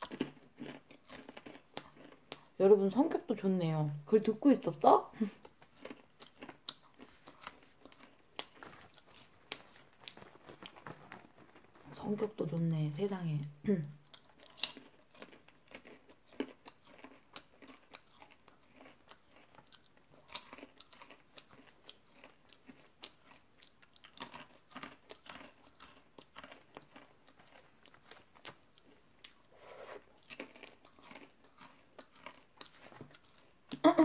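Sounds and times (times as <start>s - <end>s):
crunchy popcorn being chewed: 0.0s - 4.6s, 5.2s - 34.0s.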